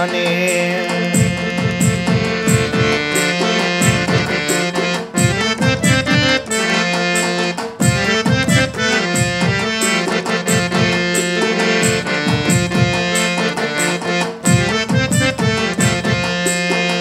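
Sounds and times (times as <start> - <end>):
electronic keyboard melody: 0.0 - 17.0
harmonium melody: 0.0 - 17.0
steady drum beat: 1.0 - 17.0.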